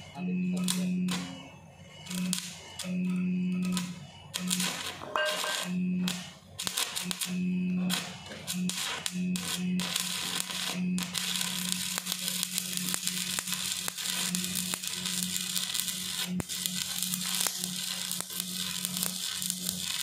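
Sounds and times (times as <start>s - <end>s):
welding arc crackling: 0.0s - 20.0s.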